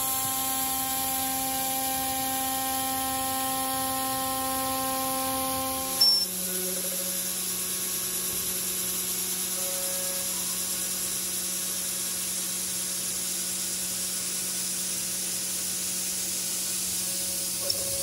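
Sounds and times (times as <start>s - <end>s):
cnc router spindle whine: 0.0s - 18.0s.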